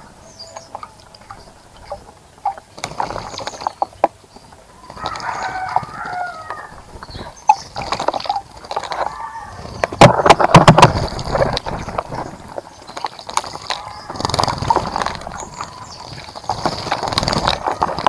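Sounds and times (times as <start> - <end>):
birds splashing in water: 0.0 - 18.0.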